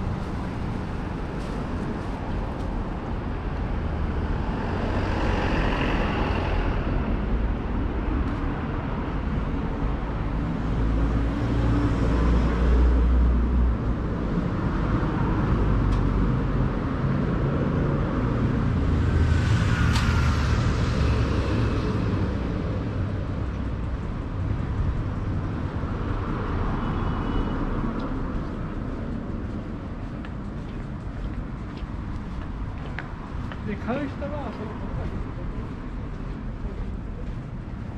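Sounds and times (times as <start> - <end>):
rumble of cars: 0.0 - 37.9.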